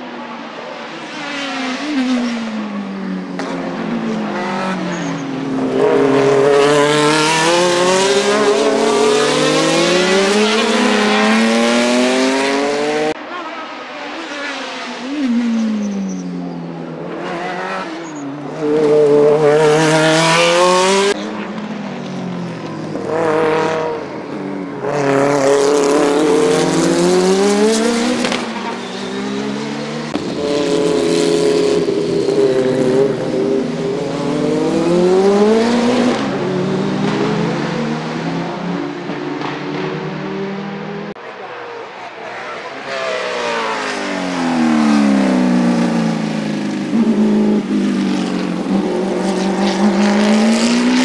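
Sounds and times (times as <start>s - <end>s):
race cars passing at speed: 0.0s - 51.0s.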